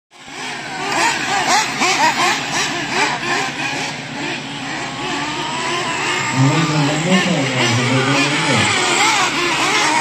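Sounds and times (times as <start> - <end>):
radio-controlled car motors whining: 0.2 - 10.0.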